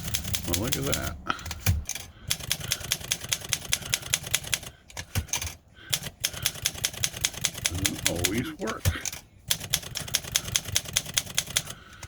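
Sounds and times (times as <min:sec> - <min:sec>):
manual typewriter typing: 0:00.0 - 0:12.0.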